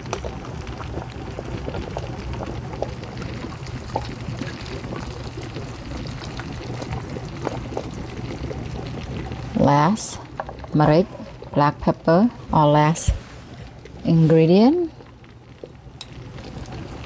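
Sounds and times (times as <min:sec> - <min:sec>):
soup bubbling: 0:00.0 - 0:17.0.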